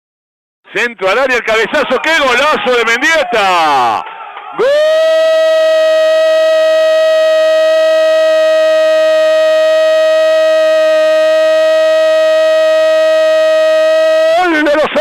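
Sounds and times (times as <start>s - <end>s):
man shouting goal cry: 1.6s - 15.0s.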